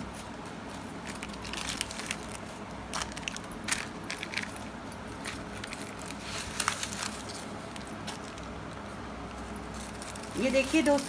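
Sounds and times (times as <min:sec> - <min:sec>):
foil crinkling: 0:00.7 - 0:08.8, 0:09.4 - 0:11.0.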